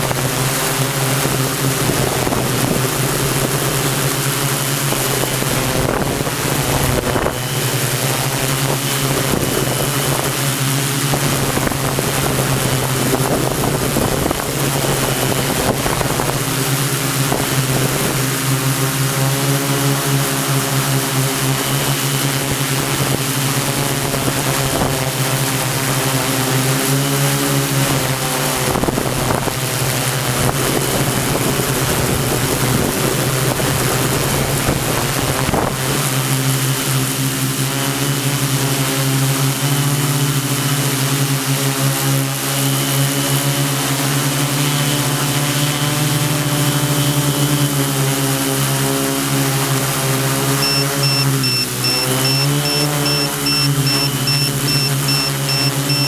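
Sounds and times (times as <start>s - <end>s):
drone propellers droning hum: 0.0s - 56.0s.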